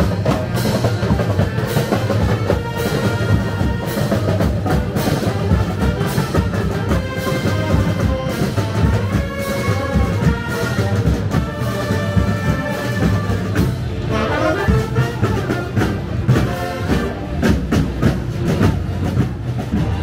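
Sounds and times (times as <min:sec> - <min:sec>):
brass band playing a march: 0:00.0 - 0:20.0
steady drum beat: 0:00.0 - 0:20.0.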